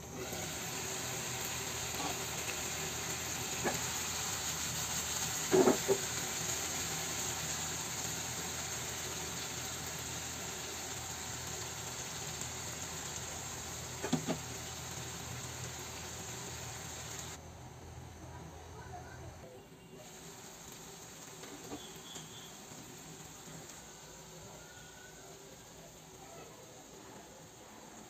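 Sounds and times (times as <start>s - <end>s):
curry bubbling in a pan: 0.6s - 17.4s, 20.0s - 26.2s.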